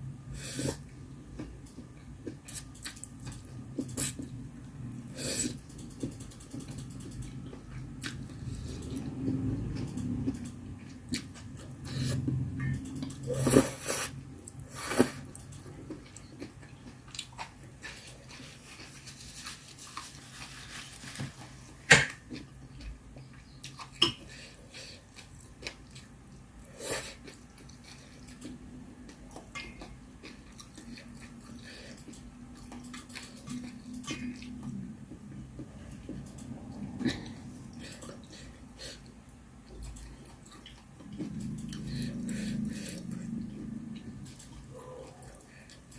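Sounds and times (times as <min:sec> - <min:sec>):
person chewing food: 0:00.6 - 0:45.9.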